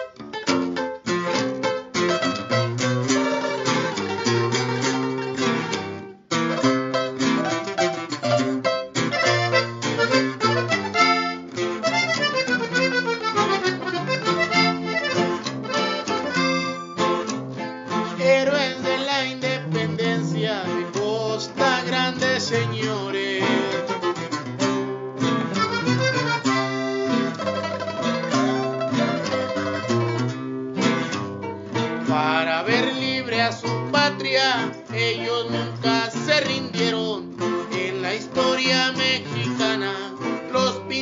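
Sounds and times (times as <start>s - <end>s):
accordion-led instrumental music: 0.0s - 41.0s.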